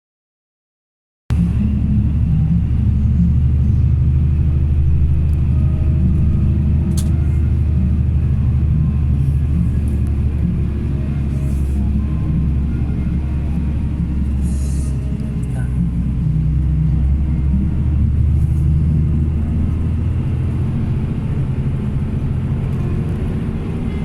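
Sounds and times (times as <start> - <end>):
vehicle engine running: 1.3 - 24.0.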